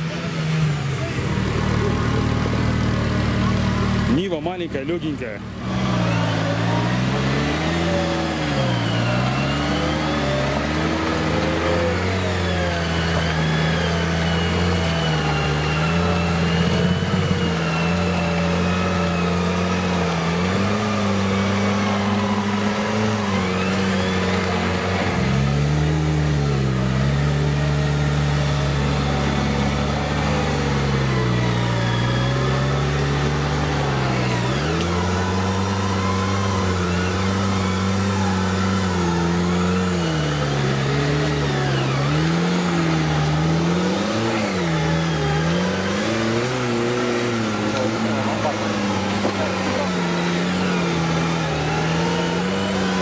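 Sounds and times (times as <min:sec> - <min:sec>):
off-road vehicle engine revving: 0:00.0 - 0:53.0.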